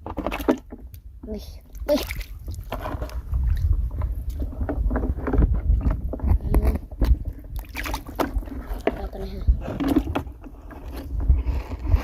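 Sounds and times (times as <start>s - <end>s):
water sloshing and splashing: 0.0s - 12.0s
wind rumble on microphone: 0.0s - 12.0s.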